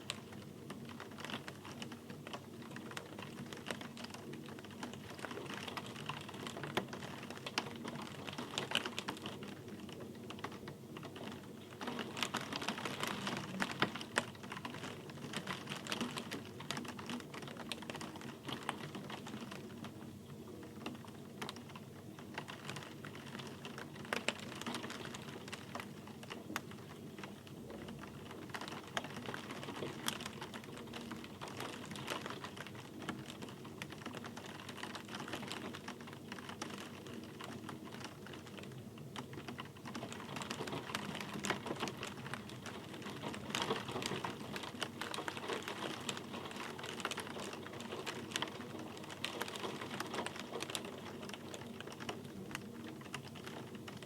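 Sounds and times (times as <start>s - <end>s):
rain drops ticking on hard surface: 0.0s - 54.0s.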